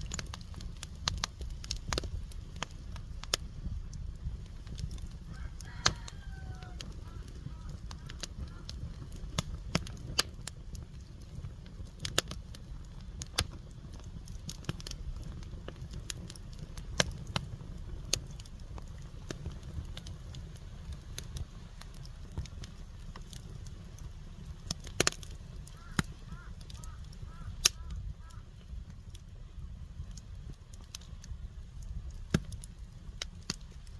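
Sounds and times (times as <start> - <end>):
firewood crackling and popping: 0.0 - 33.9
low steady rumble: 0.0 - 33.9.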